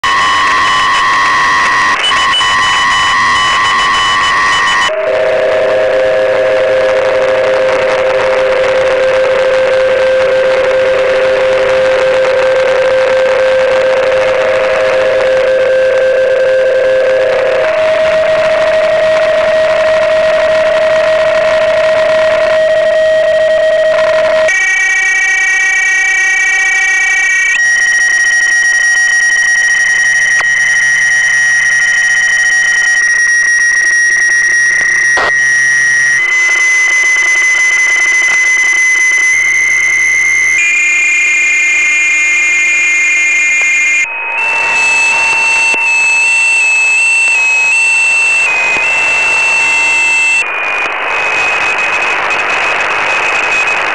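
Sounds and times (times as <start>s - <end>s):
radio data tones: 0.0s - 53.9s.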